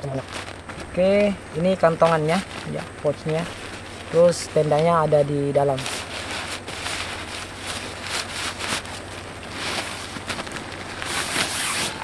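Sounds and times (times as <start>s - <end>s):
nylon sack rustling: 0.0s - 12.0s.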